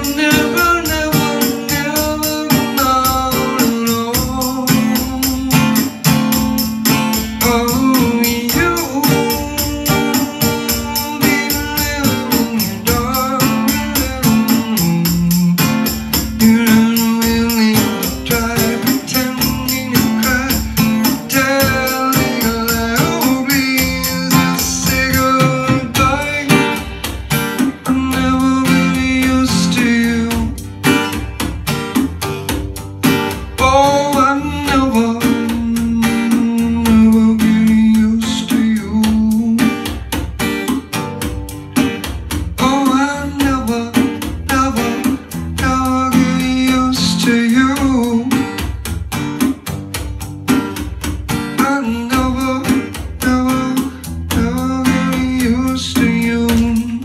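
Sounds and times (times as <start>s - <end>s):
man singing: 0.0s - 27.0s, 27.6s - 31.1s, 33.4s - 40.1s, 42.5s - 48.8s, 51.5s - 57.0s
strummed acoustic guitar: 0.0s - 57.0s.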